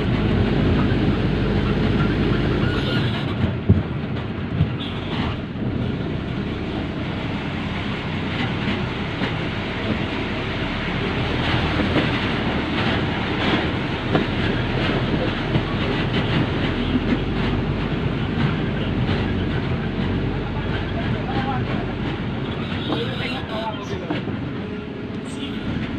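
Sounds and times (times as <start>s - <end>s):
vehicle rumble: 0.0s - 25.9s.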